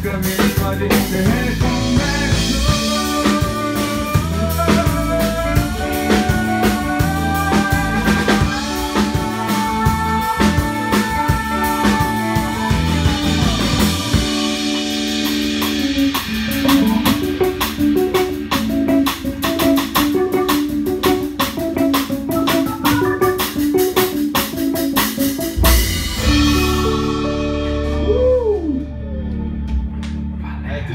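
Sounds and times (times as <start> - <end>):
band playing instrumental: 0.0 - 30.4
drum kit: 0.0 - 30.4
guitar: 0.0 - 30.9
organ-like keyboard: 0.9 - 30.9.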